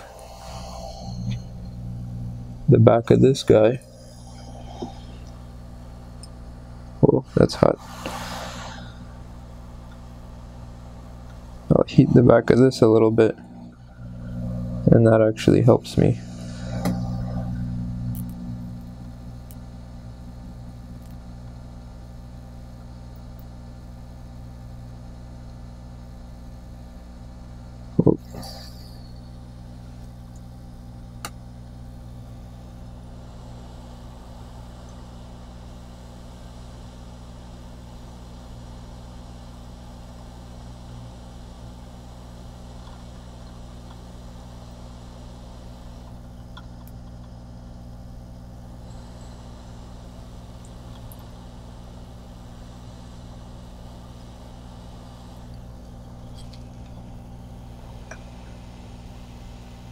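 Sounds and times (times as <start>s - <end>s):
electrical hum with static hiss: 0.0s - 59.9s.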